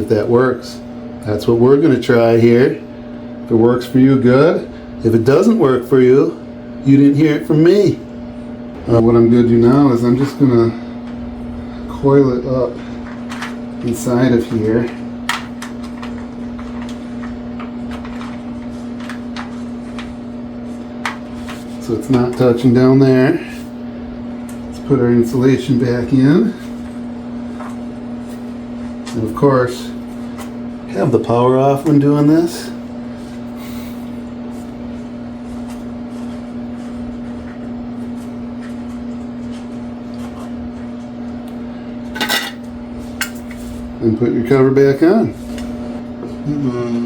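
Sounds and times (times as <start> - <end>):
low steady hum: 0.0 - 20.1, 20.7 - 47.0.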